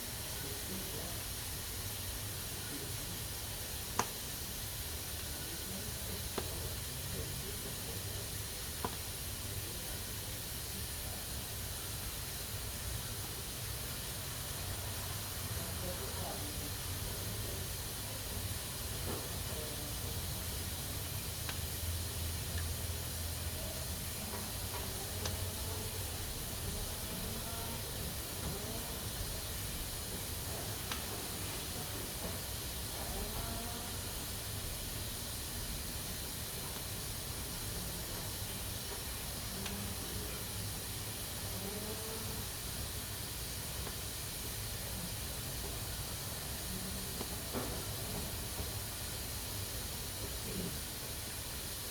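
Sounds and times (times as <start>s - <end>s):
pressure cooker steam hiss: 0.0s - 51.9s.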